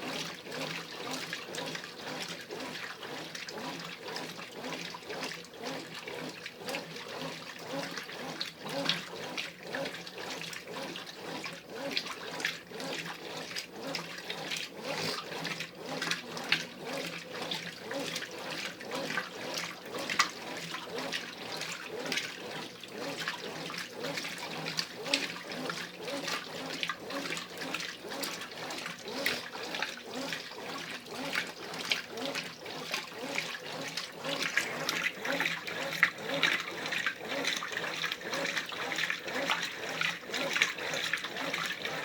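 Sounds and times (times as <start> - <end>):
washing machine motor hum: 0.0 - 42.0
water and clothes sloshing: 0.0 - 42.0.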